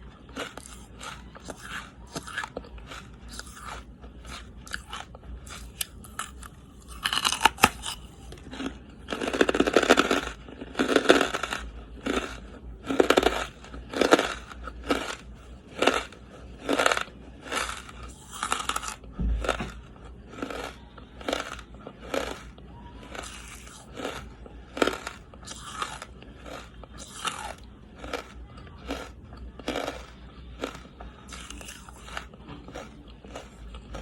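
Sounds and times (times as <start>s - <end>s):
charcoal crunching when chewed: 0.0s - 34.0s.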